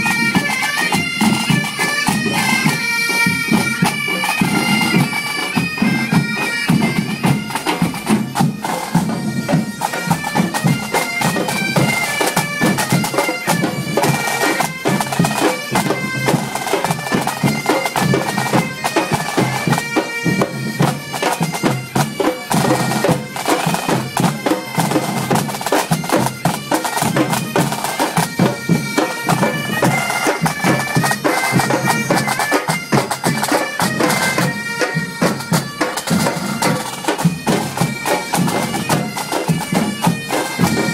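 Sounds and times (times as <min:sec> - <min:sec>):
bagpipes playing melody: 0:00.0 - 0:40.9
drums playing steady rhythm: 0:00.0 - 0:40.9.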